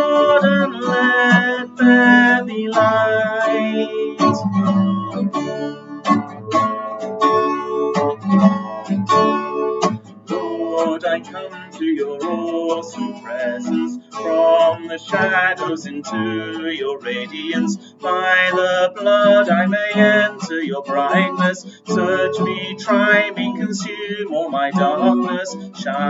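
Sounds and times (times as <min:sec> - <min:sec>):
acoustic guitar strumming: 0:00.0 - 0:26.0
person singing: 0:00.0 - 0:26.0.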